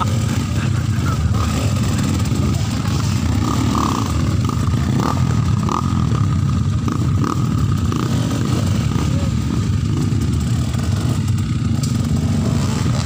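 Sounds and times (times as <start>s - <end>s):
motorcycle engine labouring uphill: 0.0s - 13.0s.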